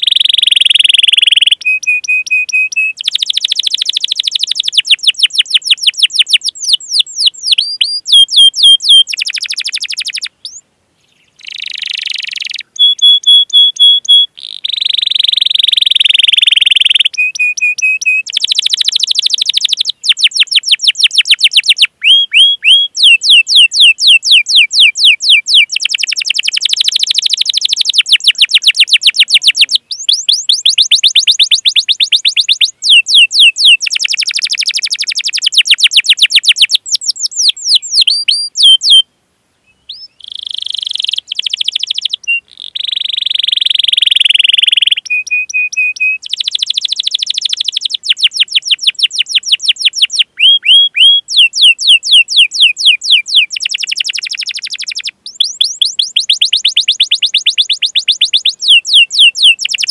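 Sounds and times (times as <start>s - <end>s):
canary singing: 0.0s - 39.1s, 39.7s - 59.9s.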